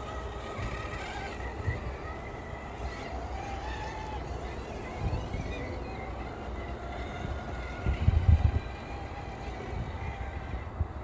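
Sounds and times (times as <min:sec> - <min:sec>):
electric motors whining: 0:00.0 - 0:11.0
wind buffeting microphone: 0:00.0 - 0:11.0.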